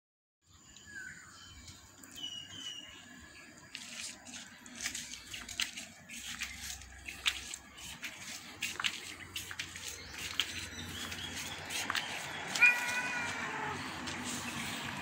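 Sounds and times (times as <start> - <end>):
birds chirping: 0.4 - 15.0.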